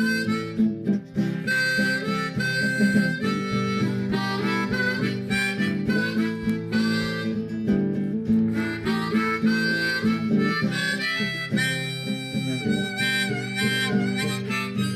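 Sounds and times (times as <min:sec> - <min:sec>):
harmonica melody: 0:00.0 - 0:14.9
strummed acoustic guitar: 0:00.0 - 0:14.9.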